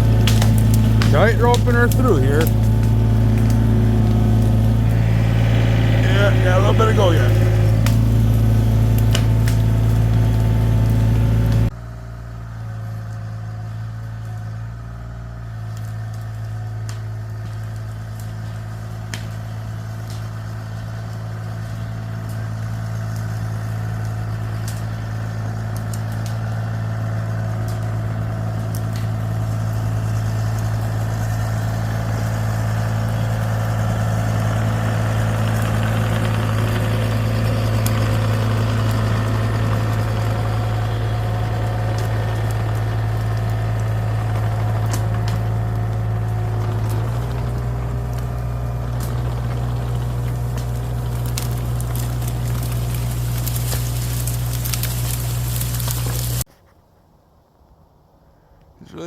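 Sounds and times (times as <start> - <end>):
excavator engine running: 0.0 - 11.9, 17.2 - 56.5.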